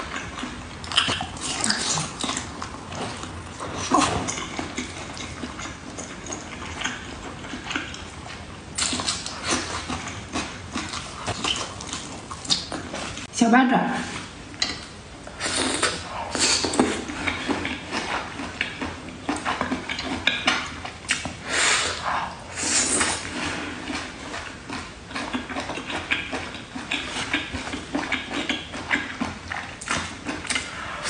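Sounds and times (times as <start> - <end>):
person chewing with wet smacks: 0.0 - 13.3, 14.1 - 31.0.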